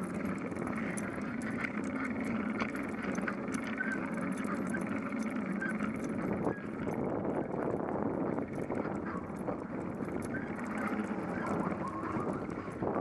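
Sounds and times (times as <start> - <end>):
bicycle rolling over pavement: 0.0 - 13.0
small clicks and rattles: 0.0 - 13.0.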